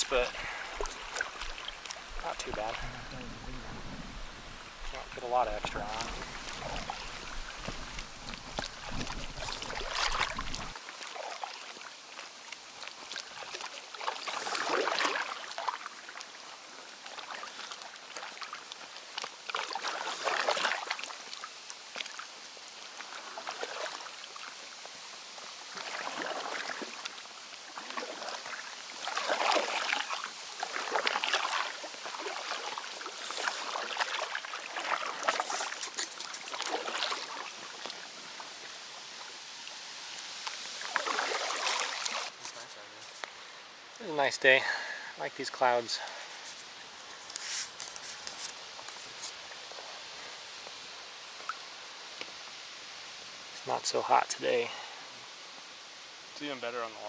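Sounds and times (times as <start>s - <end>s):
paddles splashing through water: 0.0s - 24.6s, 25.7s - 52.4s.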